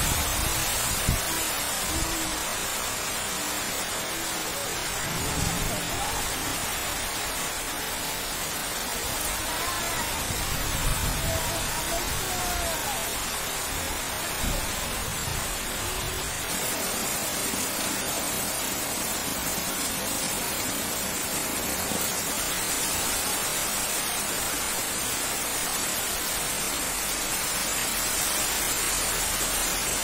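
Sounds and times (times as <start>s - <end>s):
heavy rain on leaves: 0.0s - 30.0s.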